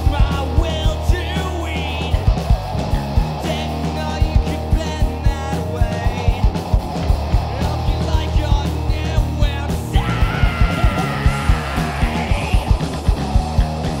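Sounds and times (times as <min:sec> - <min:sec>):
alternative rock band playing: 0:00.0 - 0:14.0.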